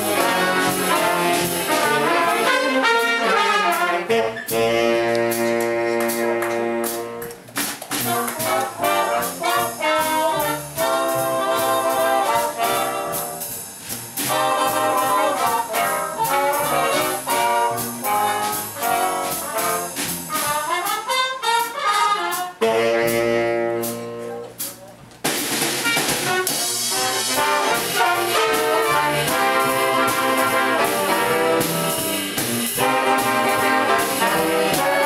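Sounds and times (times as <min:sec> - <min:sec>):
big band playing swing jazz: 0:00.0 - 0:35.0.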